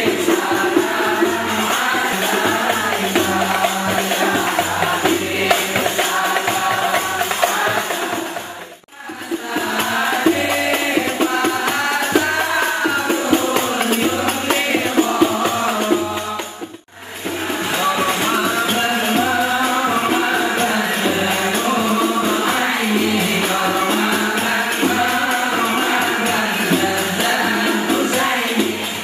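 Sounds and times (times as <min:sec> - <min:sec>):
boys singing together: 0:00.0 - 0:29.0
frame drums beating: 0:00.0 - 0:29.0.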